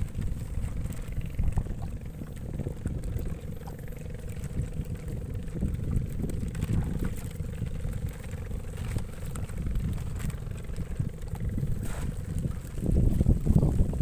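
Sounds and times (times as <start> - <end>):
steady hum: 0.0 - 14.0
wind buffeting microphone: 0.0 - 14.0.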